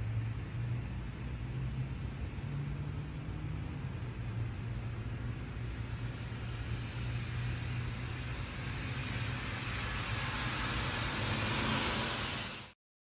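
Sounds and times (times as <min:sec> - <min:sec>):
low rumble of traffic: 0:00.0 - 0:12.8
tyres hissing on wet road: 0:00.0 - 0:12.8.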